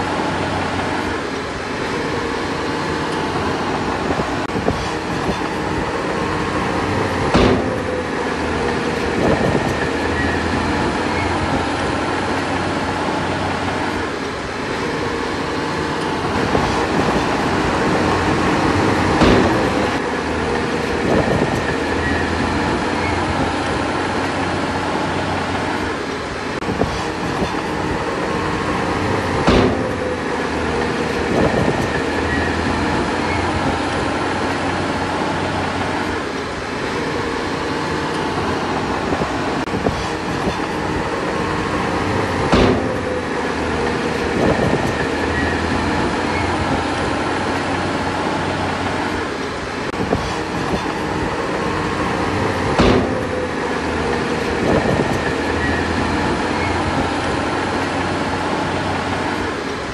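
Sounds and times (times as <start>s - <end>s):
diesel engine humming: 0.0s - 59.9s
sharp metallic clanks: 1.2s - 13.6s, 14.7s - 25.7s, 26.7s - 35.9s, 37.0s - 47.9s, 50.0s - 58.2s.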